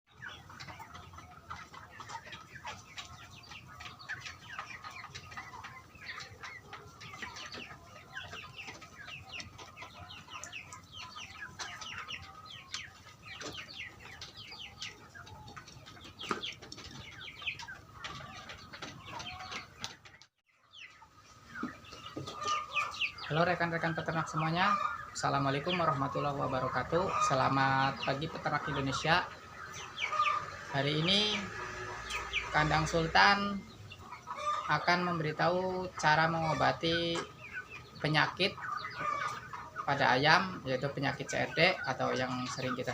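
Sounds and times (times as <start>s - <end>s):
chickens clucking: 0.1s - 42.9s.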